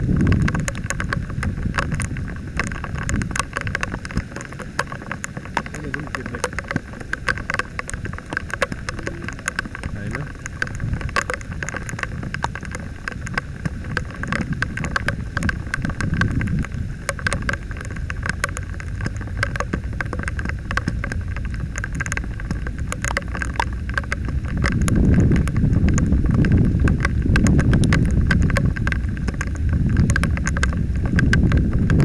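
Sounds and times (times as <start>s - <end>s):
low rumble of rain: 0.0s - 32.0s
raindrop ticks: 0.0s - 32.0s.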